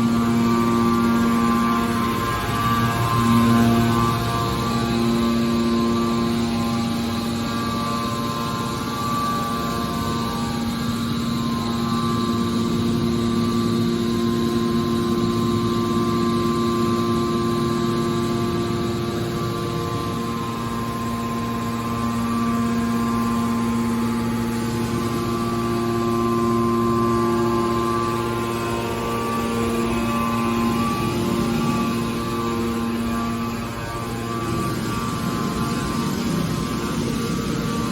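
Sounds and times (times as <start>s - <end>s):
hydraulic power unit humming: 0.0s - 37.9s.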